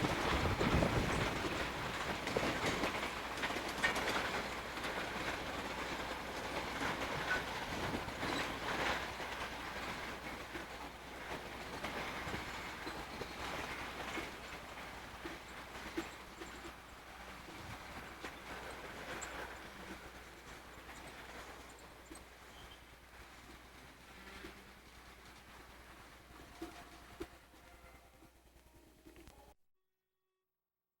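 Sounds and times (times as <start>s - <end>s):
freight train wheels clacking: 0.0s - 28.0s.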